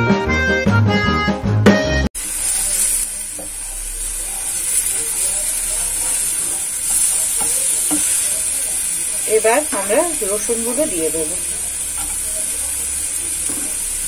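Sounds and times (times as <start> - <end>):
tomato slices sizzling in pan: 2.2 - 14.0.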